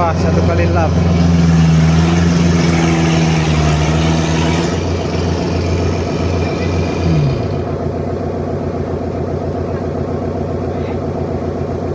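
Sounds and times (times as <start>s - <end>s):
heavy machinery engine running: 0.0s - 11.9s.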